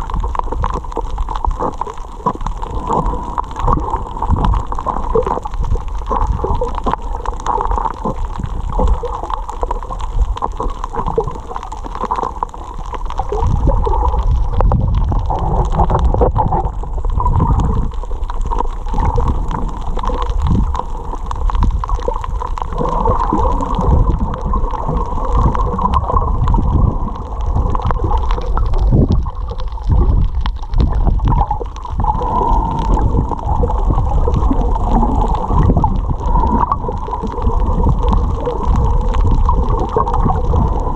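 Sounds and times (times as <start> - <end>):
underwater water gurgling: 0.0 - 40.9.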